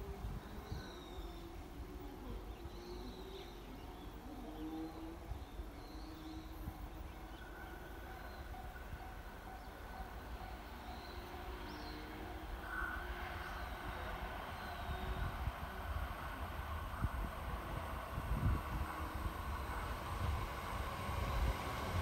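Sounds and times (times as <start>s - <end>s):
distant electric train approaching: 0.0s - 22.0s.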